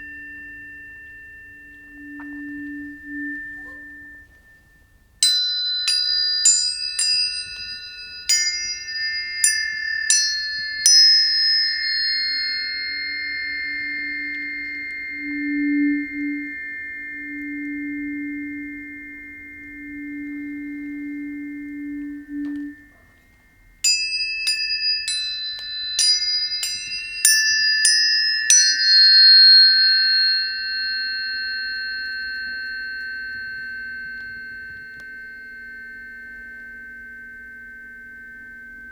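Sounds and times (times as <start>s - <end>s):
tuning forks ringing: 0.0s - 38.9s
tuning forks struck: 0.0s - 38.9s.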